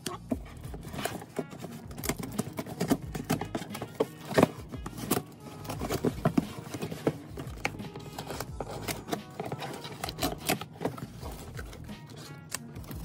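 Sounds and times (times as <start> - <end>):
hands handling cardboard box: 0.0 - 13.0.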